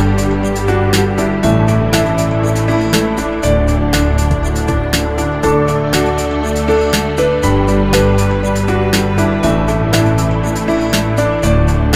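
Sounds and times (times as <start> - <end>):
soft instrumental music: 0.0 - 11.9.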